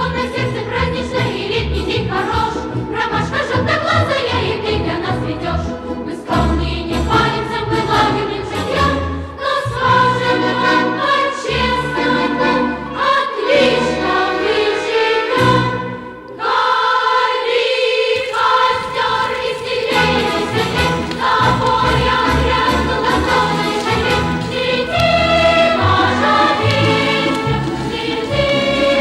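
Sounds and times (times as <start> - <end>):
choir singing with instruments: 0.0 - 29.0.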